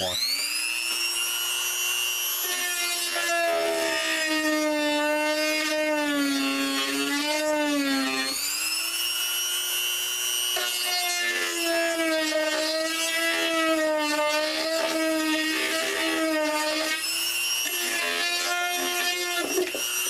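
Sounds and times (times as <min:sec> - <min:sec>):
rotary tool grinding: 0:00.0 - 0:20.0.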